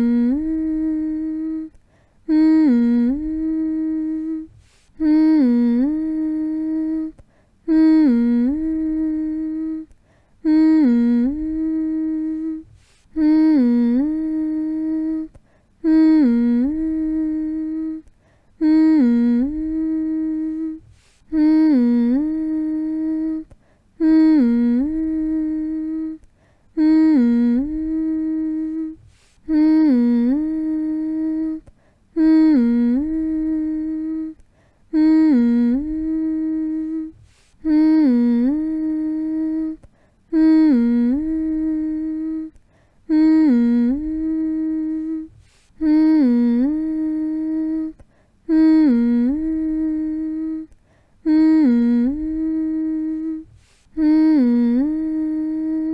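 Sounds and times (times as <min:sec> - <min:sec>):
breath between hums: 0:00.0 - 0:55.9
person humming low note: 0:00.0 - 0:55.9.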